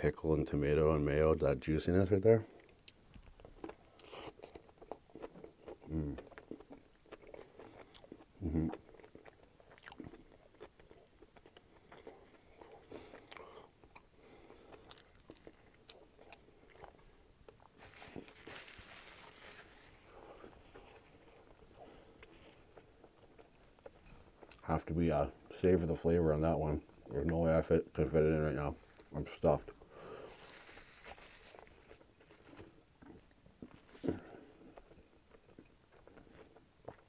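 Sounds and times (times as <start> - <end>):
wet chewing with mouth clicks: 2.5 - 25.6, 28.8 - 37.0.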